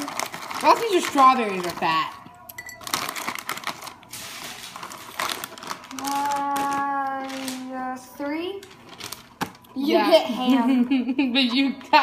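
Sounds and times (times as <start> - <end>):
bag crinkling: 0.0 - 9.8.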